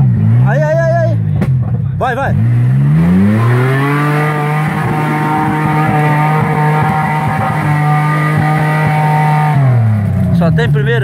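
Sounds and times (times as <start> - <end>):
engine labouring at high revs: 0.0 - 11.0
low rumbling: 0.0 - 11.0.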